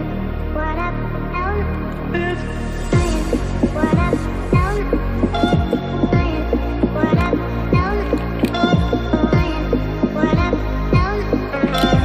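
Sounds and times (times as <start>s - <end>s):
electronic music melody: 0.0s - 12.0s
deep bass beat: 2.2s - 12.0s.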